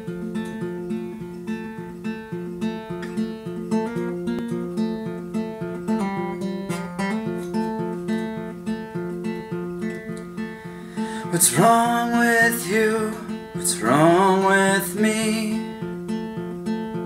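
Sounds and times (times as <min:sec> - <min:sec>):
acoustic guitar picking chords: 0:00.0 - 0:17.0.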